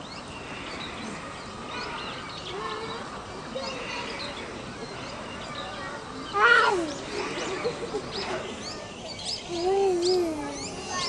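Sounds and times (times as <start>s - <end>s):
faint people's voices: 0.0s - 11.0s
small birds chirping: 0.0s - 11.0s.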